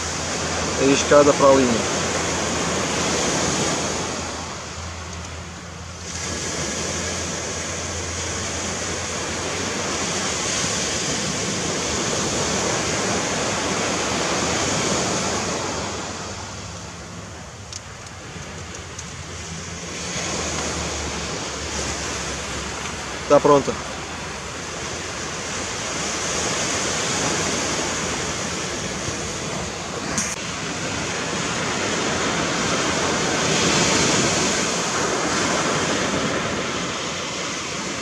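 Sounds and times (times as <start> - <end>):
ocean surf washing on beach: 0.0 - 38.0.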